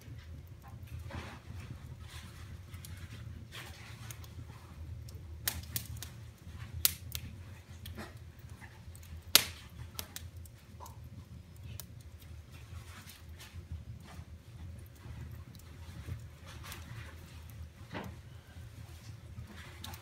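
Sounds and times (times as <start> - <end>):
fire pops and snaps: 0.0 - 18.3, 19.0 - 20.0
wood fire crackling: 0.0 - 20.0.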